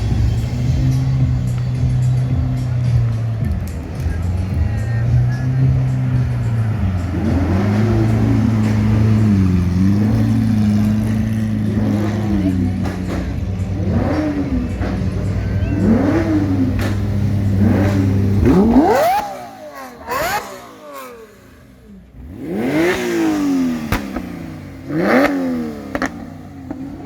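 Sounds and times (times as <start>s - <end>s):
car engine revving in blips: 0.0s - 27.0s.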